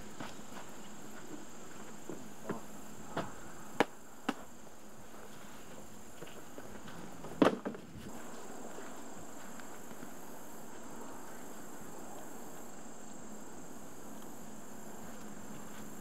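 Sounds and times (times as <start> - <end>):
thin high outdoor hum: 0.0 - 16.0.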